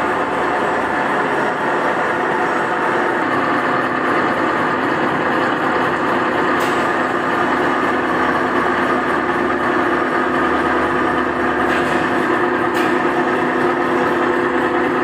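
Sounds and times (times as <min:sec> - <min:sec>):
milling machine humming: 0:00.0 - 0:15.0.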